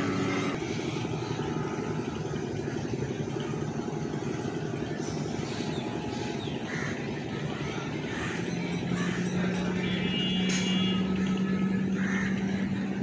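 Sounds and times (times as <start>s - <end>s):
higher engine note: 0.0s - 13.0s
outboard engine running: 0.0s - 13.0s.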